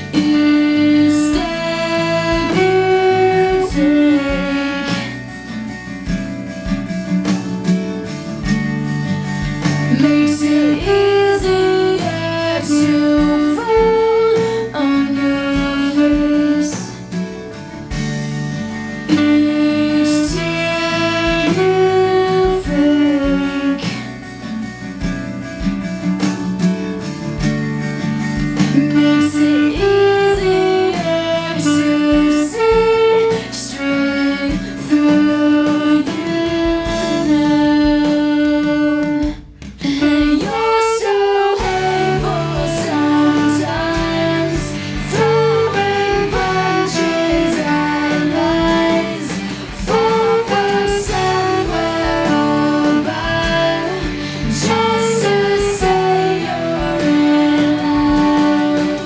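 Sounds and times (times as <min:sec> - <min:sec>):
alto saxophone melody: 0:00.0 - 0:59.0
guitar-led rock backing track: 0:00.0 - 0:59.0.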